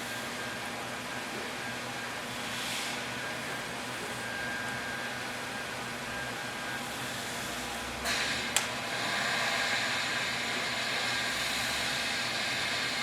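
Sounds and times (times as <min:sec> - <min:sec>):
machine hum and hiss: 0:00.0 - 0:13.0.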